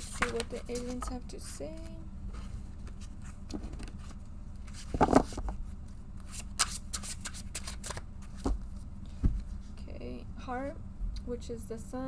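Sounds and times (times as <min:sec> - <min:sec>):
cards being shuffled: 0:00.0 - 0:09.7.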